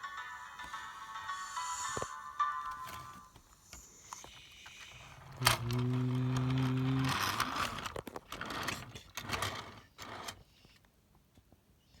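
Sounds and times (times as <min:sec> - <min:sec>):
electric train hum: 0:00.0 - 0:10.3.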